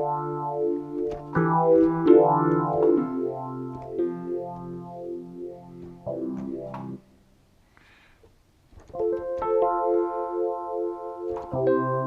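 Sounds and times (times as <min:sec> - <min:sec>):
electric piano chords: 0:00.0 - 0:07.2, 0:08.8 - 0:12.0.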